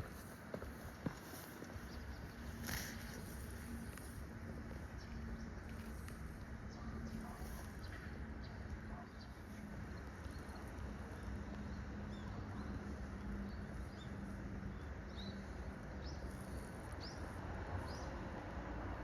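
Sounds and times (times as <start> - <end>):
background rush with low hum: 0.0 - 19.0.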